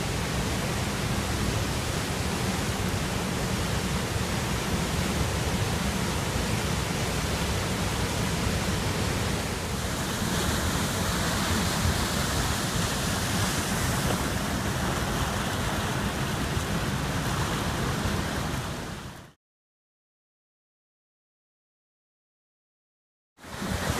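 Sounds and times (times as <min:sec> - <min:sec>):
rushing churning water: 0:00.0 - 0:19.4, 0:23.4 - 0:23.9.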